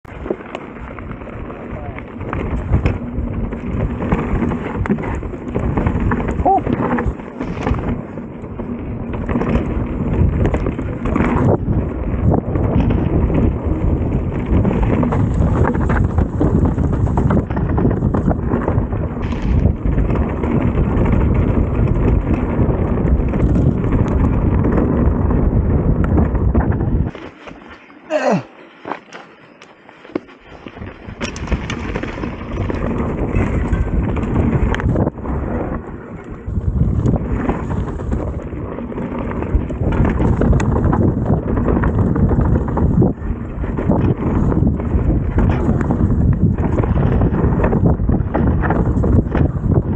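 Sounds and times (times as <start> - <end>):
wind buffeting microphone: 0.1 - 27.3, 30.4 - 49.9
bike rattling over rocks: 0.1 - 49.9
tyres rolling over ground: 0.1 - 49.9.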